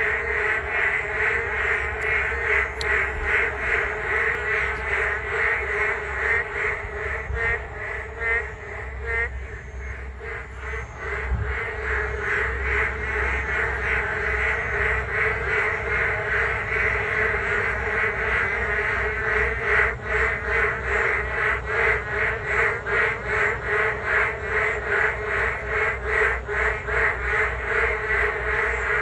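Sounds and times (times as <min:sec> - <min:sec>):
frogs croaking in chorus: 0:00.0 - 0:29.0.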